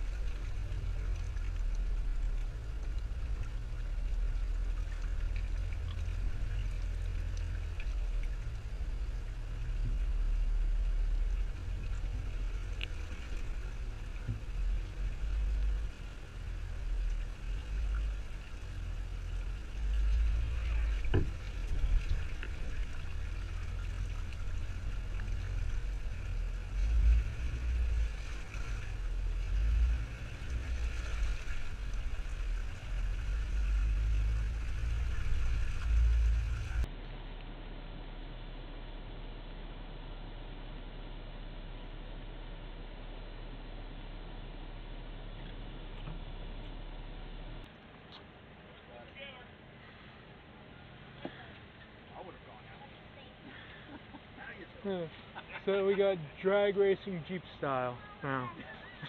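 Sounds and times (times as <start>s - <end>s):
road and wind hiss: 0.0s - 59.0s
vehicle engine rumble: 0.0s - 59.0s.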